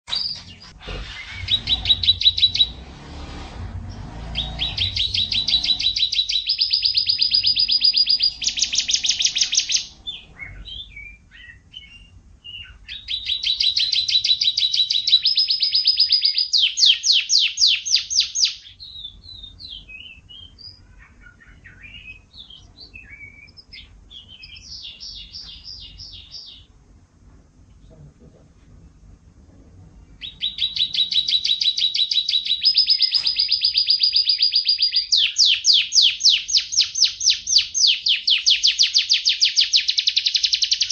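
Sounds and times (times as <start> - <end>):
soft bird chirps: 0.1 - 2.9, 3.8 - 26.8, 29.9 - 40.9
canary singing: 0.1 - 26.9, 29.9 - 40.9.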